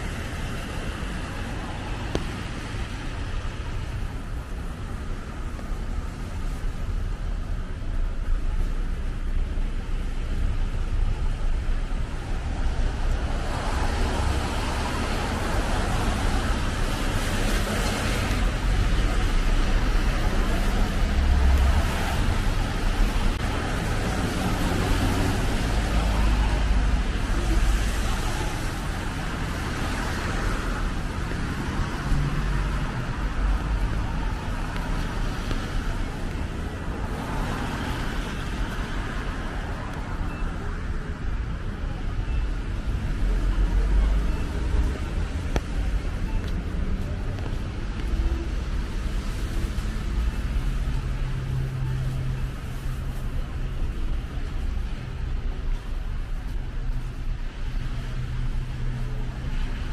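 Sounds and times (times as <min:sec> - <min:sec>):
cars passing with tyre hiss: 0:00.0 - 0:59.9
low traffic rumble: 0:00.0 - 0:59.9.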